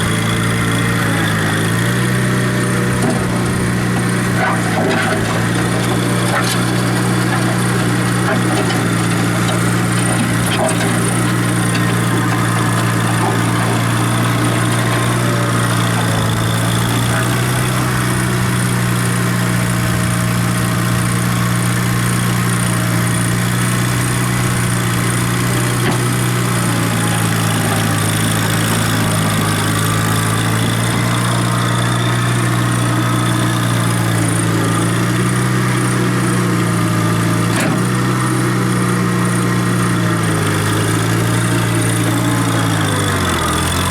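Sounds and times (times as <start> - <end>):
skid steer engine running: 0.0 - 43.9.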